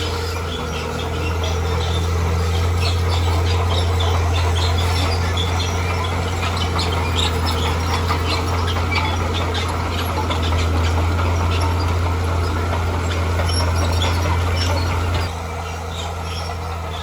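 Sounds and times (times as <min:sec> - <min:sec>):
short high squeaks: 0:00.0 - 0:15.3
bulldozer diesel engine running: 0:00.0 - 0:17.0.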